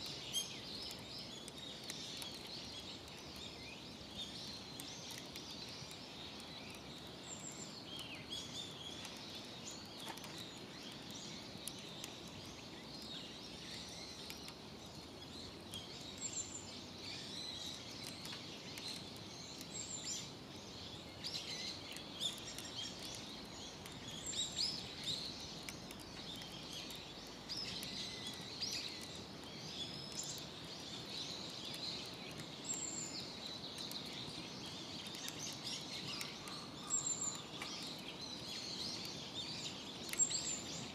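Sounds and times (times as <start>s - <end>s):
faint crackles: 0.0s - 40.9s
wild birds chirping: 0.0s - 40.9s.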